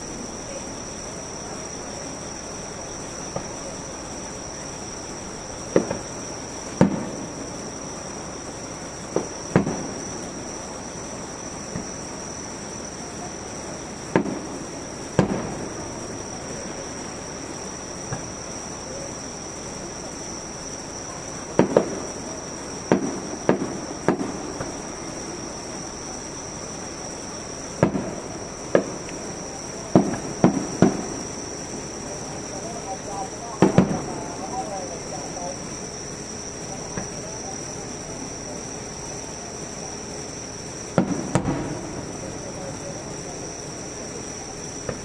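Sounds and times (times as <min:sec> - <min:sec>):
fireworks bursting: 0:00.0 - 0:45.0
high insect trill: 0:00.0 - 0:45.0.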